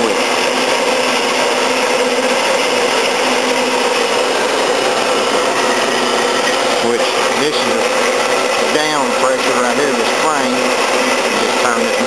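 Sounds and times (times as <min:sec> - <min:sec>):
band saw cutting metal: 0:00.0 - 0:12.0.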